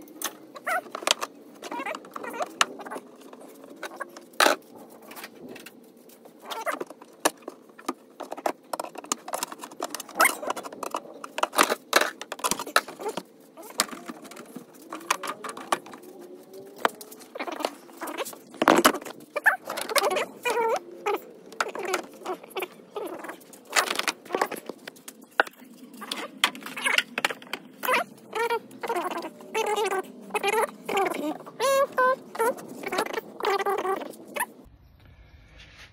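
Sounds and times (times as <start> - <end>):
plastic creaking: 0.0 - 34.7.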